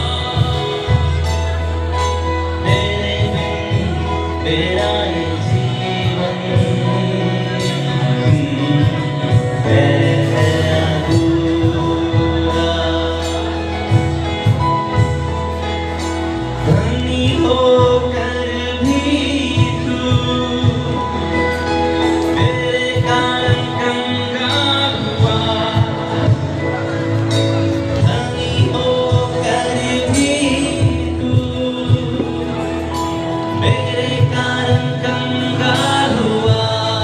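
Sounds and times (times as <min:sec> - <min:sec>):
person singing: 0:00.0 - 0:37.0
worship band playing: 0:00.0 - 0:37.0.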